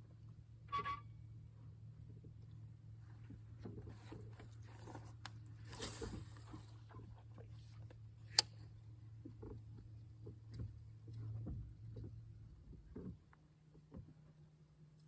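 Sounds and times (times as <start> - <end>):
knocks and handling noises in boat: 2.0 - 14.5.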